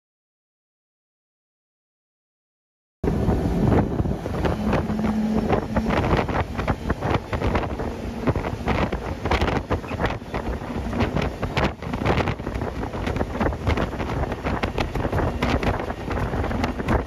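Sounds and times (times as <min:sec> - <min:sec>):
wind buffeting microphone: 0:03.0 - 0:17.0
outboard boat engines: 0:03.1 - 0:17.0.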